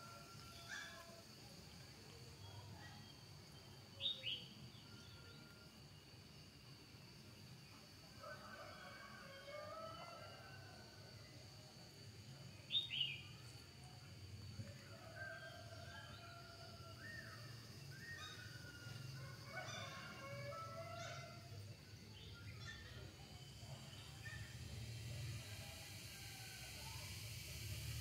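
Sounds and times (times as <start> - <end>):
faint high whine: 0.0 - 28.0.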